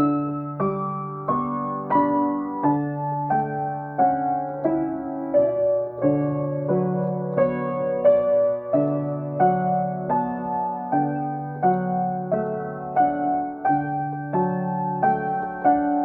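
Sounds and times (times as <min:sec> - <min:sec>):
solo piano chords: 0:00.0 - 0:16.0.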